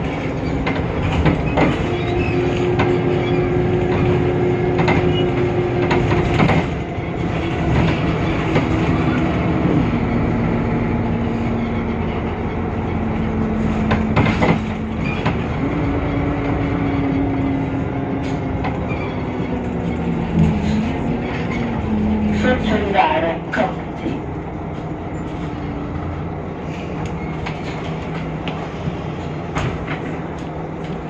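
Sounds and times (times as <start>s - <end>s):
bus engine whine: 0.0s - 31.0s.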